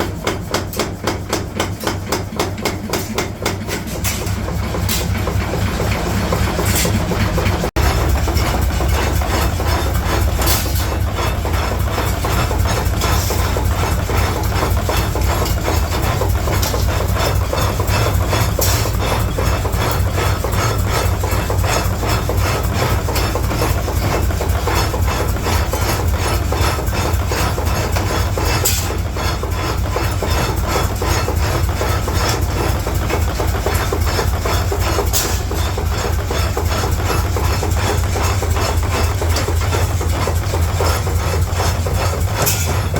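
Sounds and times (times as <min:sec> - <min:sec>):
machinery low drone: 0:04.0 - 0:42.9.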